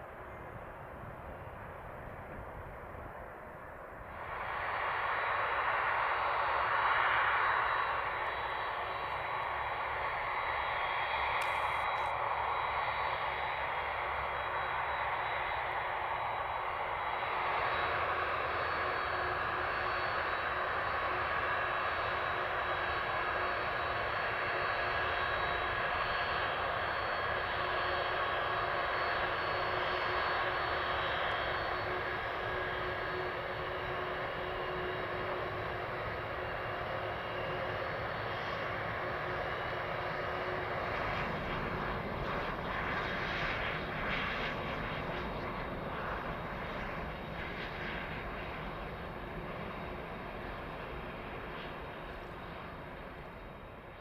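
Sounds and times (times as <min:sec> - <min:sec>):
jet engines whining: 0:03.9 - 0:54.0.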